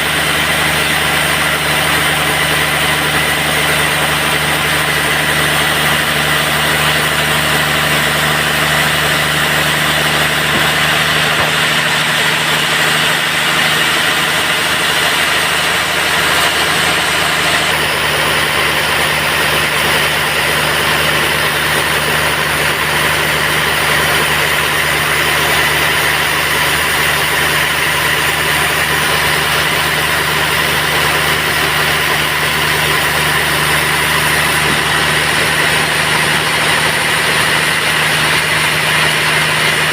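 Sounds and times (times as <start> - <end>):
sawmill machine drone: 0.0 - 39.9.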